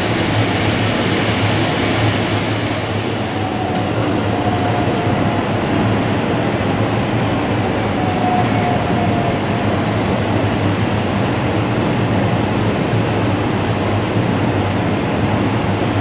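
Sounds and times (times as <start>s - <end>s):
train rail noise with hum: 0.0s - 16.0s.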